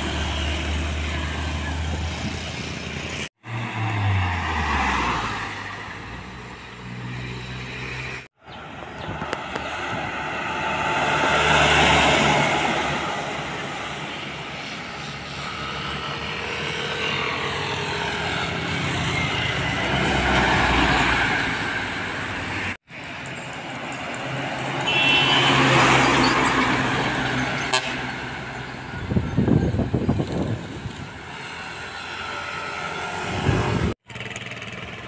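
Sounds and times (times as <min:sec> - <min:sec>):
trucks driving past: 0:00.0 - 0:35.0.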